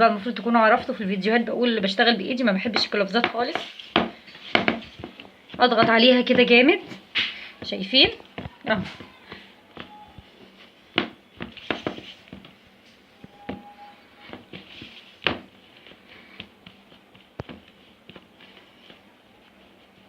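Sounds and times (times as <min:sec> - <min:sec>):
hands patting dough in tray: 0:00.0 - 0:20.0.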